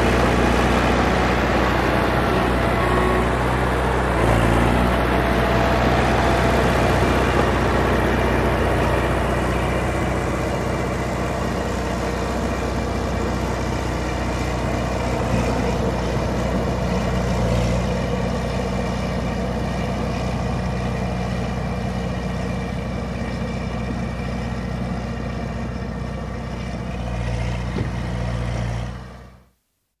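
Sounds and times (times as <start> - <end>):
bulldozer diesel engine running: 0.0 - 29.6.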